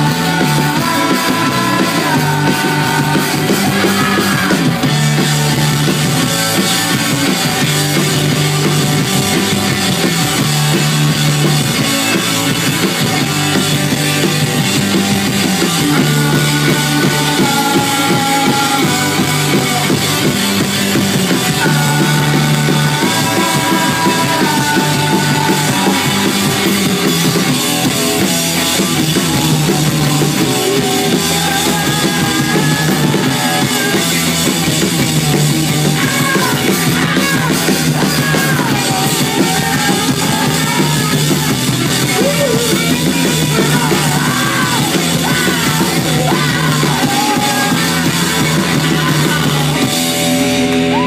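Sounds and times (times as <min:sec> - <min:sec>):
person singing: 0:00.0 - 0:09.1, 0:14.3 - 0:34.9, 0:35.7 - 0:51.0
punk rock band playing: 0:00.0 - 0:51.0.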